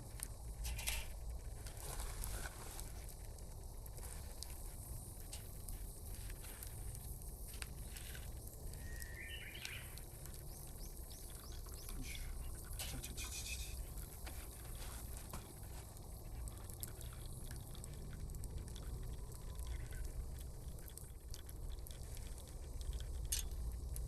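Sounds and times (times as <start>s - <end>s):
water trickling and dripping: 0.0s - 24.0s.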